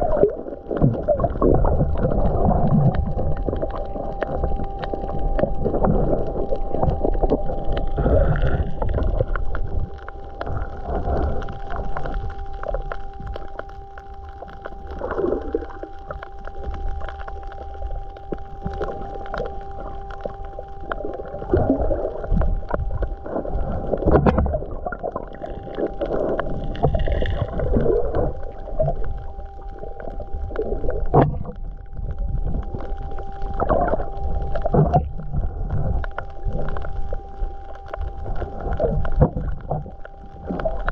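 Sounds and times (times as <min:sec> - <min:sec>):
water sloshing and gurgling: 0:00.0 - 0:40.9.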